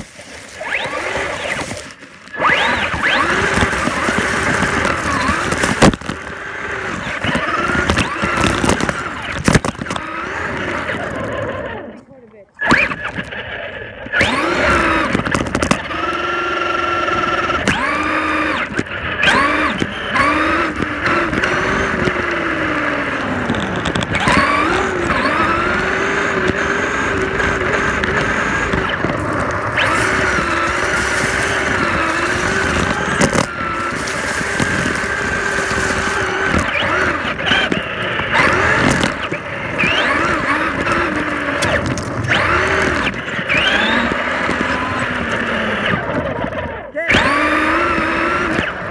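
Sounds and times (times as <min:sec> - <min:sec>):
toy truck motor whine: 0:00.0 - 0:12.0, 0:12.6 - 0:48.9.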